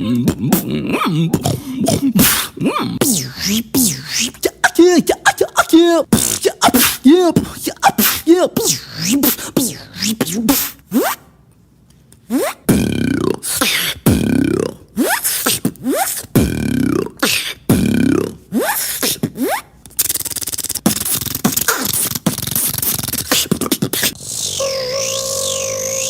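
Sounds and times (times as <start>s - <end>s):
beatboxer swooping vocal sweeps: 0.0s - 11.3s, 12.2s - 26.0s
fast buzzing vocal rattle: 0.4s - 10.7s, 12.3s - 26.0s.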